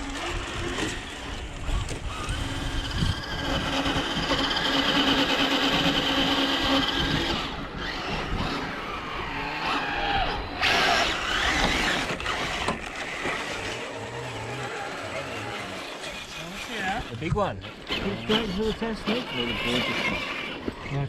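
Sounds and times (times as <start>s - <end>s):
electric motor and gearbox whining: 0.0s - 21.0s.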